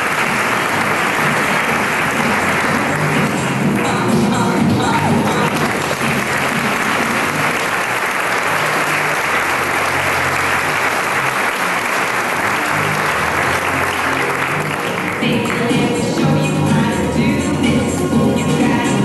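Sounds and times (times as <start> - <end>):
audience applauding: 0.0 - 15.9
background music with bass: 0.0 - 19.0.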